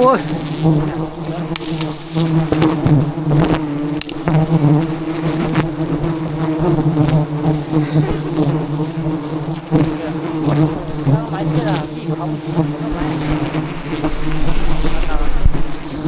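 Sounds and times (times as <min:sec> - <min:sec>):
bees buzzing: 0:00.0 - 0:16.0
single bees whining past: 0:00.0 - 0:16.0.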